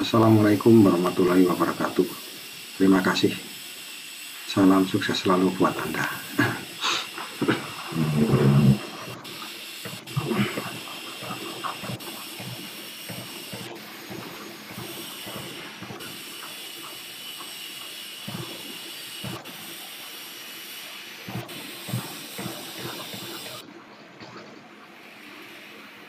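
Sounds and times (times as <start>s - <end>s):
steady hiss: 0.0s - 23.6s, 24.9s - 26.0s.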